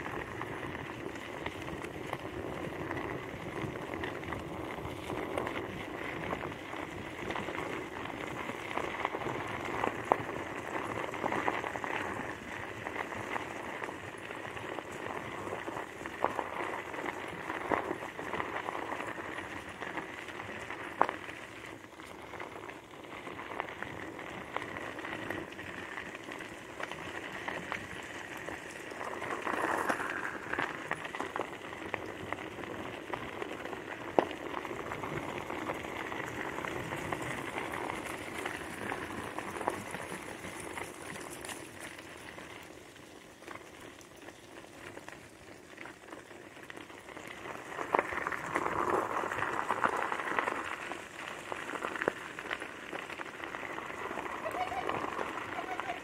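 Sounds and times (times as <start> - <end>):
tyres rolling on gravel: 0.0 - 56.0.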